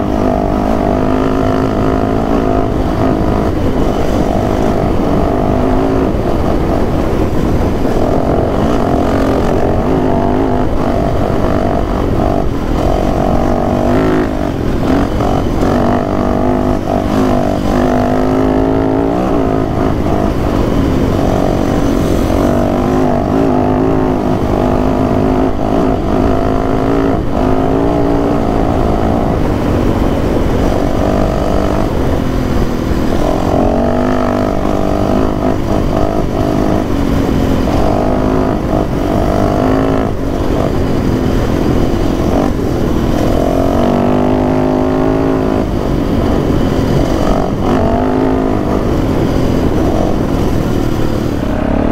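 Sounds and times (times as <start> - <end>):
dirt bike engine revving: 0.0 - 51.9
wind and road noise on microphone: 0.0 - 51.9.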